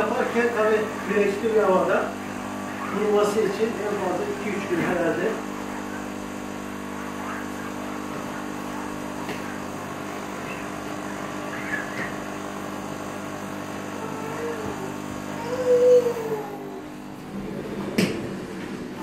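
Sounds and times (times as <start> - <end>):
cleaning machine motor humming: 0.0 - 19.0.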